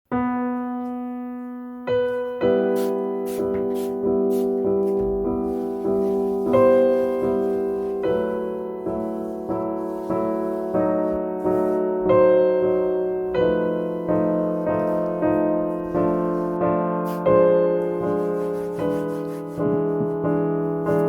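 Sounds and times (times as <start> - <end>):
slow solo piano chords: 0.1 - 21.0.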